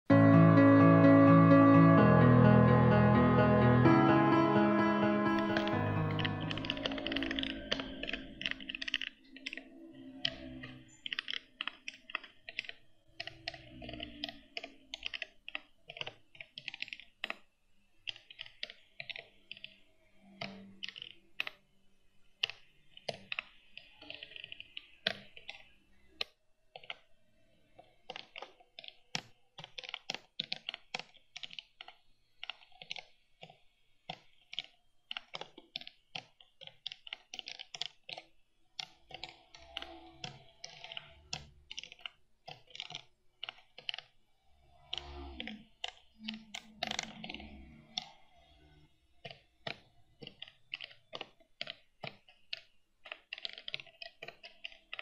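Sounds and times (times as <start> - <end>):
keyboard typing: 0.1 - 55.0.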